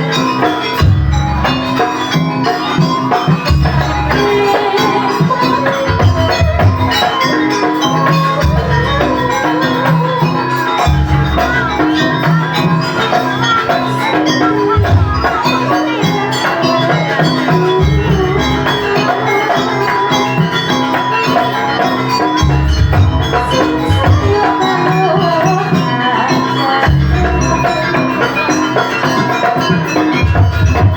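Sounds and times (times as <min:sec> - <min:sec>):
gamelan ensemble: 0:00.0 - 0:30.9.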